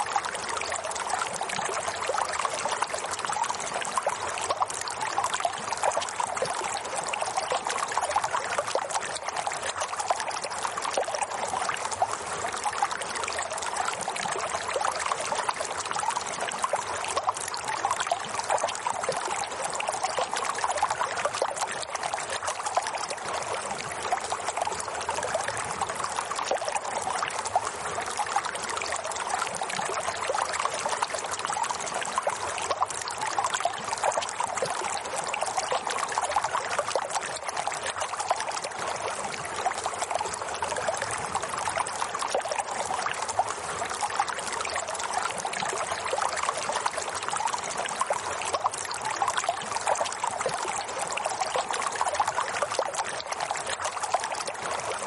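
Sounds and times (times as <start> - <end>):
running water trickling: 0.0 - 55.0.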